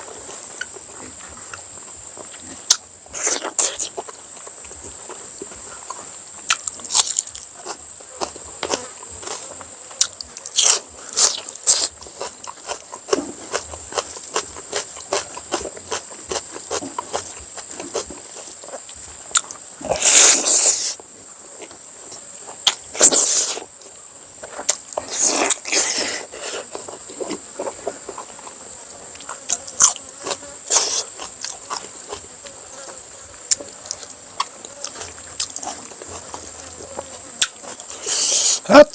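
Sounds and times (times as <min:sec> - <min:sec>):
insect drone: 0:00.0 - 0:38.9
chewing and mouth noises: 0:00.4 - 0:21.0, 0:24.4 - 0:38.6.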